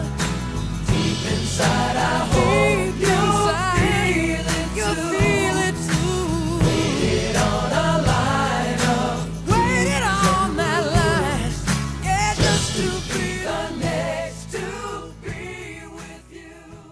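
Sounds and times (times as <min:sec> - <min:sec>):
pop song with singing: 0:00.0 - 0:16.9.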